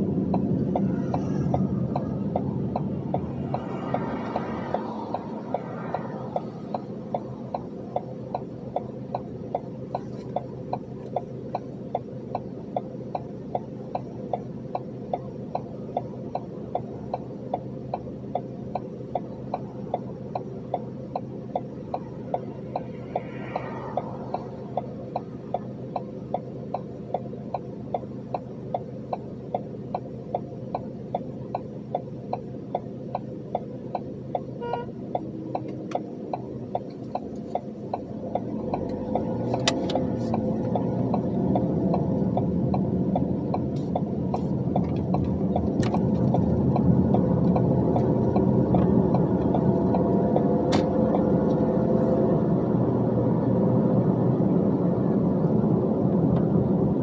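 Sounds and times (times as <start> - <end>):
idling engine hum: 0.0 - 57.0
turn signal relay ticking: 0.0 - 57.0.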